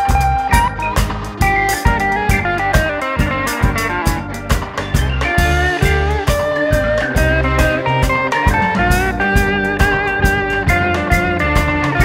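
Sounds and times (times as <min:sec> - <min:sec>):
guitar-led music over a beat: 0:00.0 - 0:12.0.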